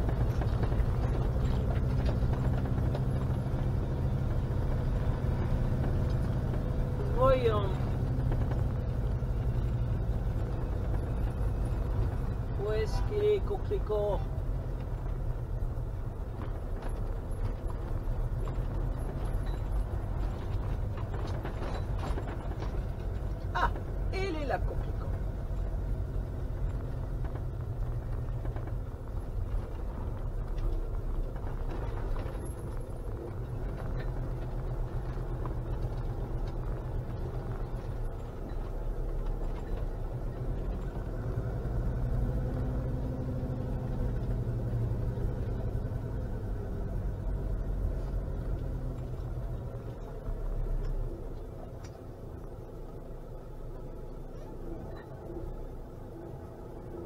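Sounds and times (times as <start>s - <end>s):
van engine and road noise: 0.0s - 57.0s.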